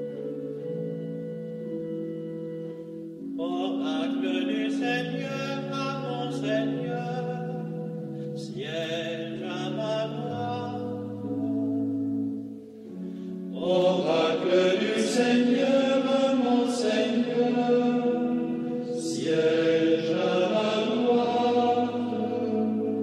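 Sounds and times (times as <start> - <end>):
chanting with long held notes: 0.0 - 23.0.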